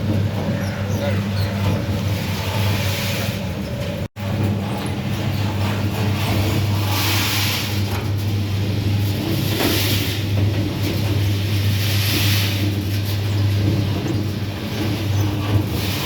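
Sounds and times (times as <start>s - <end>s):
dryer machine hum: 0.0s - 16.0s.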